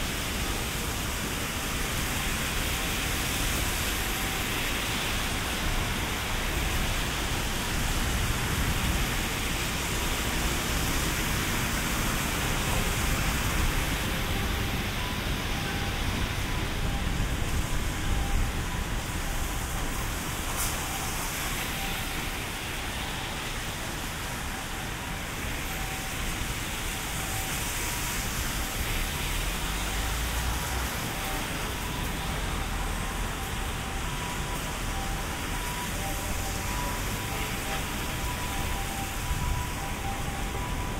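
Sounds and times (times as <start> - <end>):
heavy rain on street: 0.0 - 40.9
traffic noise: 0.0 - 40.9.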